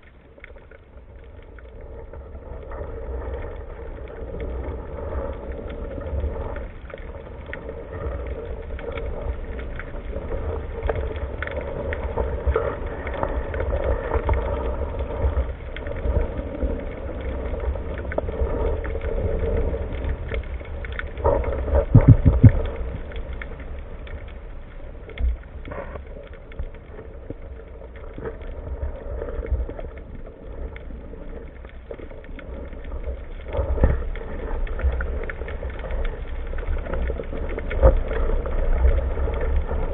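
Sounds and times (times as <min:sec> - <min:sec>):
faint clicks: 0:00.0 - 0:39.9
muffled underwater rumble: 0:00.0 - 0:39.9.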